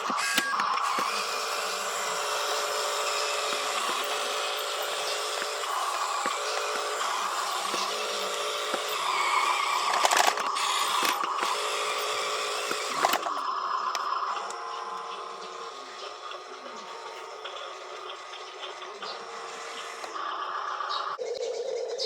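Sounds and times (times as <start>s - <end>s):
toy electric motors whining: 0.0s - 22.0s.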